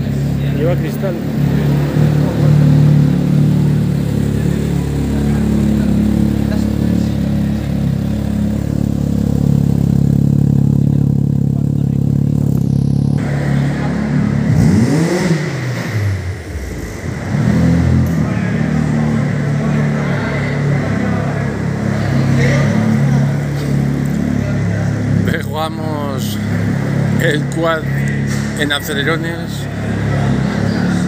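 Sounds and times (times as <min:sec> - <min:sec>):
quad engine revving: 0:00.0 - 0:31.0.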